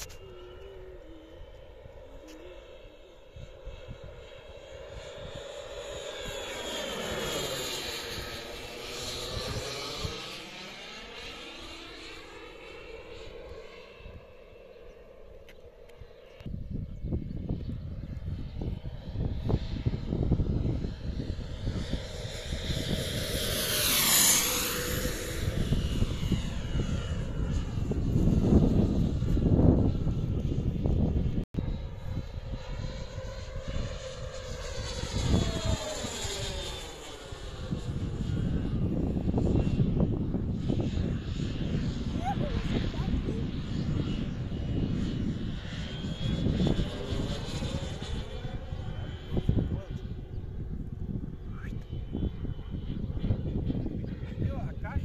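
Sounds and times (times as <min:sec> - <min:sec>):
wind rumble on microphone: 0:00.0 - 0:11.3, 0:15.4 - 0:55.0
model aircraft flying past: 0:00.0 - 0:55.0.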